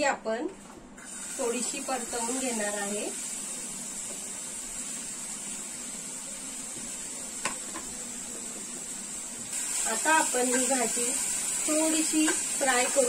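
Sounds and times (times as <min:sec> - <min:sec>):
vegetables sizzling in oil: 0:01.0 - 0:13.0.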